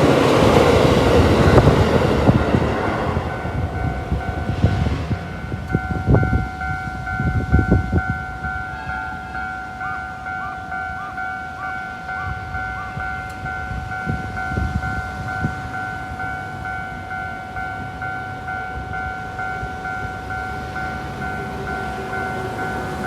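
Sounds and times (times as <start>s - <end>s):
level crossing warning bell: 0.0s - 23.0s
train rumble: 0.0s - 23.0s.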